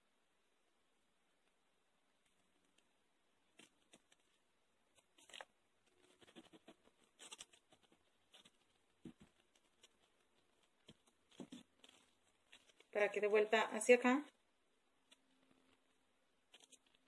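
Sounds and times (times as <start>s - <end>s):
ribbon rustling: 2.2s - 17.0s.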